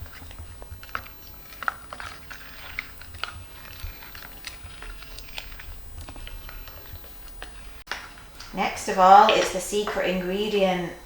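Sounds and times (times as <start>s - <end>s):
spoon stirring thick slime: 0.0s - 11.0s.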